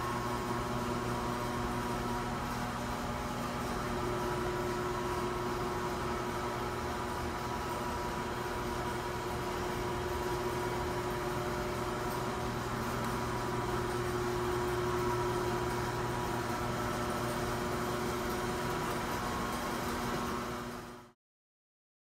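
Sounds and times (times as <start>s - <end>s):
ventilation fans running: 0.0s - 21.2s.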